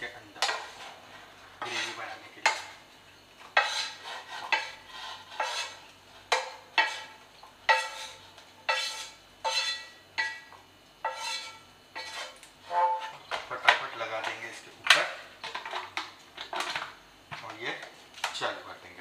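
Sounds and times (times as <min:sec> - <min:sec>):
spatula knocking and scraping a pan: 0:00.4 - 0:02.8, 0:03.4 - 0:16.9.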